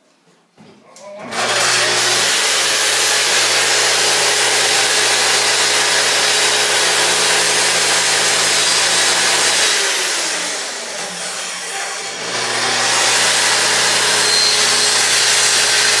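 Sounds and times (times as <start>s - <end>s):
circular saw cutting wood: 1.2s - 16.0s.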